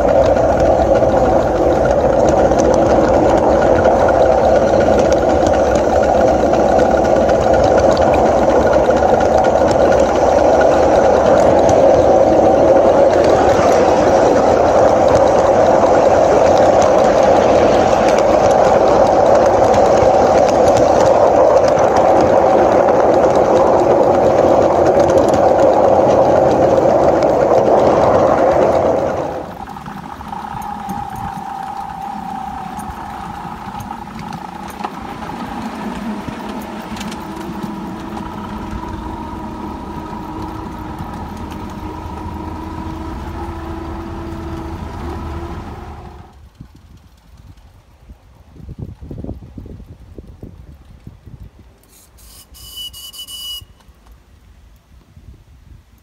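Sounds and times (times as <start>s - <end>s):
diesel train idling: 0.0s - 46.5s
miniature steam train rumbling: 0.0s - 56.0s.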